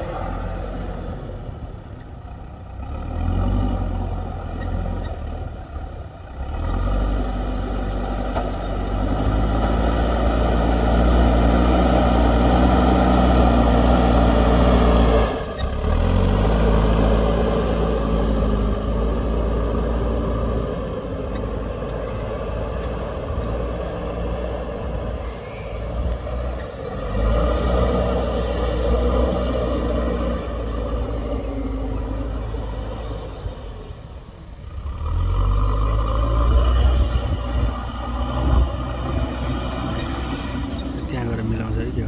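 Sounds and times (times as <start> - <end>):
diesel engine working hard: 0.0 - 42.0.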